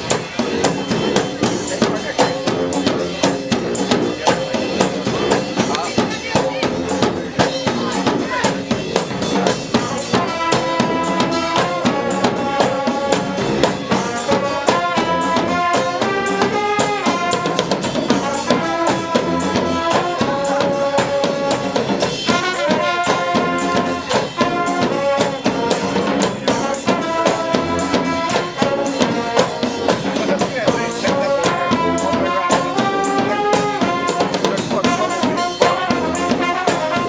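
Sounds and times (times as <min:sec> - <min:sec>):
drumming and percussion: 0:00.0 - 0:37.0
horns playing melody: 0:00.0 - 0:37.0.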